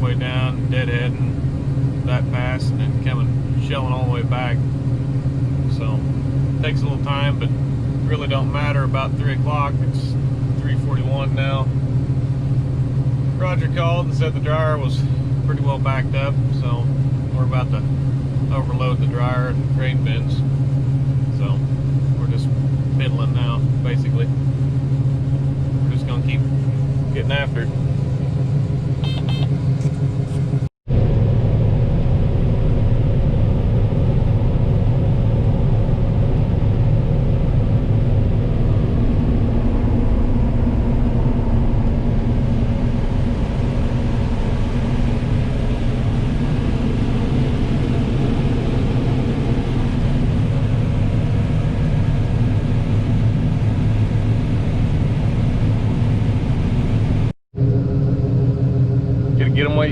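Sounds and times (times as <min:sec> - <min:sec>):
combine harvester engine drone: 0:00.0 - 0:59.9
machinery hum: 0:00.0 - 0:59.9.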